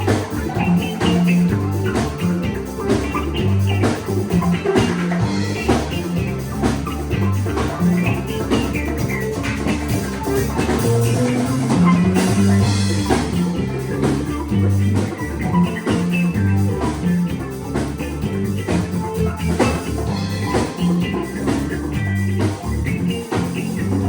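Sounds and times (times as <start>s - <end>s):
held low notes: 0.0s - 24.0s
rock band playing: 0.0s - 24.0s.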